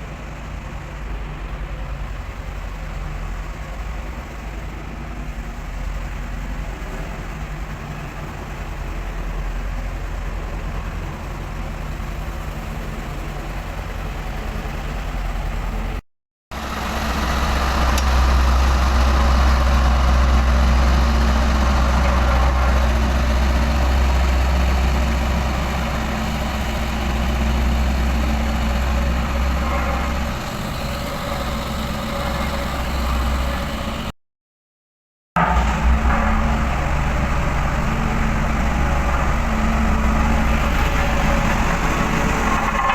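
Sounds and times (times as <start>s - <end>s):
road roller diesel engine drone: 0.0s - 34.2s, 35.4s - 42.9s.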